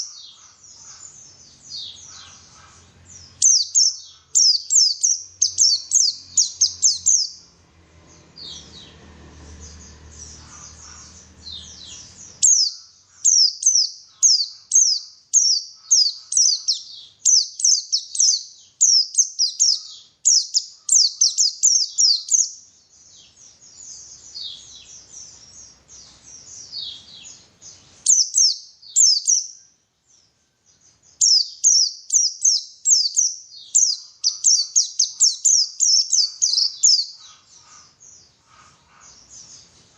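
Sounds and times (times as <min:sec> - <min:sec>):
bird singing high chirps: 0:00.0 - 0:09.0, 0:09.6 - 0:39.7.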